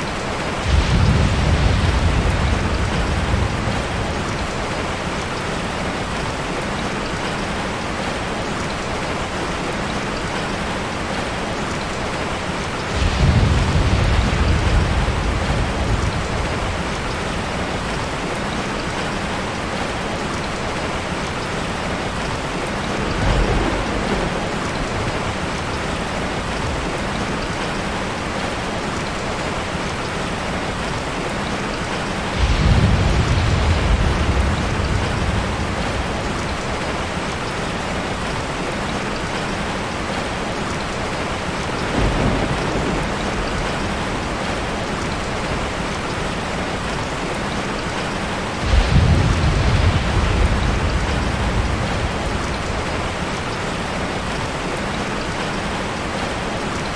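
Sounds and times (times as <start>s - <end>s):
heavy rain hissing: 0.0s - 56.9s
thunder rumbling: 0.1s - 6.6s, 12.2s - 20.1s, 20.8s - 28.5s, 32.1s - 40.2s, 41.0s - 56.7s.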